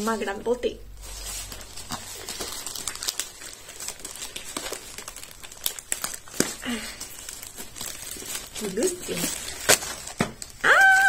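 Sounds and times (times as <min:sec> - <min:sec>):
plastic bag crinkling: 0:00.0 - 0:11.0
sharp plastic crackles: 0:00.9 - 0:11.0.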